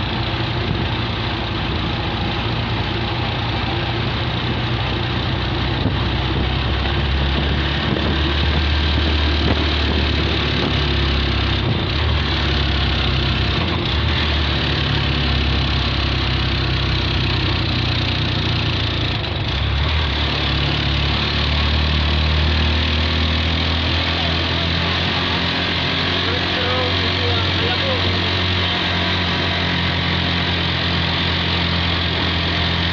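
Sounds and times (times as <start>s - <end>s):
engine humming: 0.0s - 32.9s.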